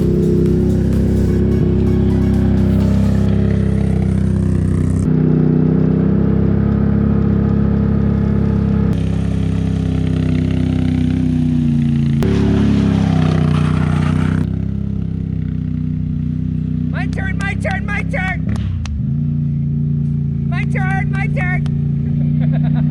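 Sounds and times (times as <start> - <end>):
atv engine running under load: 0.0 - 22.9.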